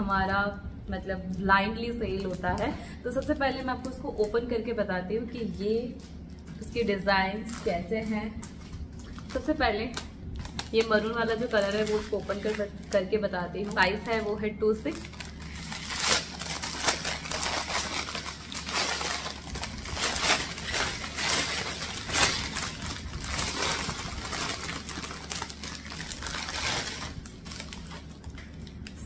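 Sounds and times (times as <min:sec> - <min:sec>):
plastic packaging crinkling: 0:05.4 - 0:29.0.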